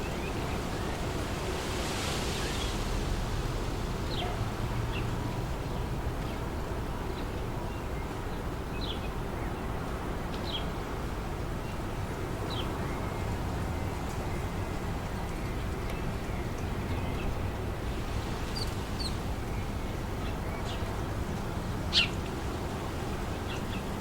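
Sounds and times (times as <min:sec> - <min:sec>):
wind blowing through trees: 0:00.0 - 0:24.0
wind rumble on microphone: 0:00.0 - 0:24.0.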